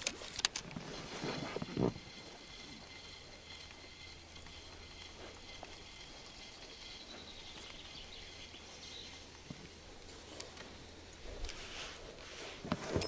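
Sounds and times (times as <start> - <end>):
small ticks: 0.0 - 11.9
thin steady high tone: 1.0 - 13.0.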